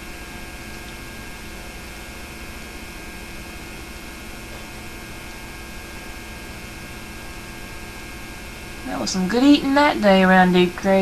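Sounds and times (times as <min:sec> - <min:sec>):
electrical hum: 0:00.0 - 0:11.0
tape hiss: 0:00.0 - 0:11.0.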